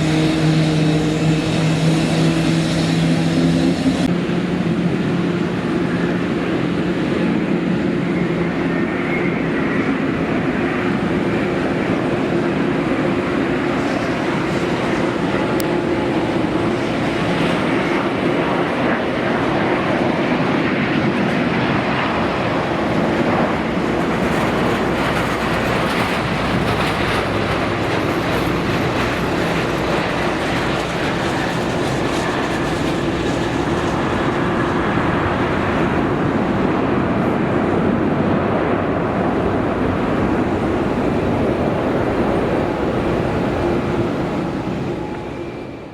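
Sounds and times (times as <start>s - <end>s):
jet airliner engines running: 0.0s - 45.9s.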